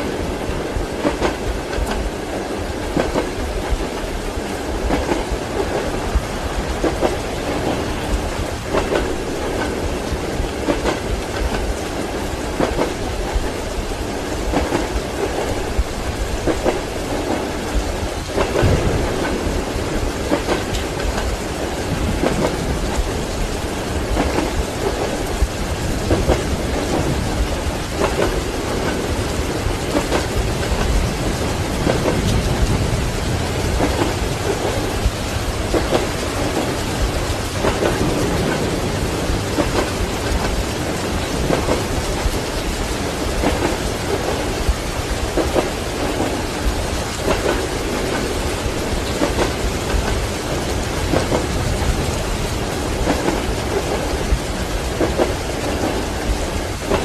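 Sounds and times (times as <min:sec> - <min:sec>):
heavy rain: 0:00.0 - 0:57.0
thunder rumbling: 0:00.0 - 0:57.0
train wheels clacking on rails: 0:00.0 - 0:57.0.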